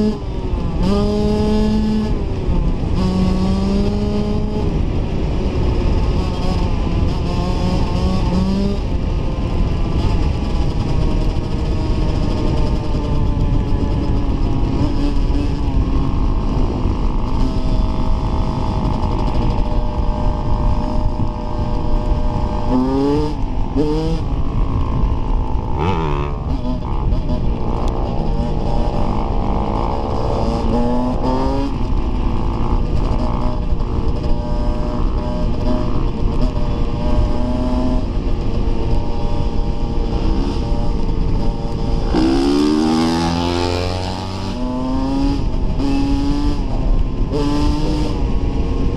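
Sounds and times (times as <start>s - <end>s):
dirt bike engine revving: 0.0s - 4.8s, 5.6s - 9.0s, 9.9s - 48.9s.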